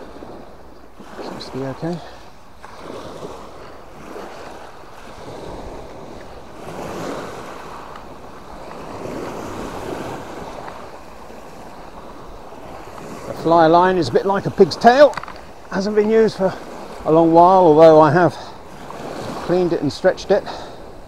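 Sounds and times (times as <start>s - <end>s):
wind rumbling on microphone: 0.0s - 20.0s
waves washing up a stone beach: 0.0s - 21.0s.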